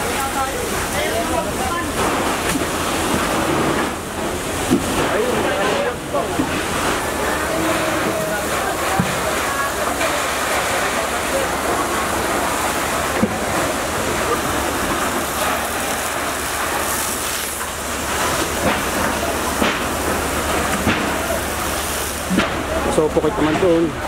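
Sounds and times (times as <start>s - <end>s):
fire hose spraying water: 0.0s - 24.0s.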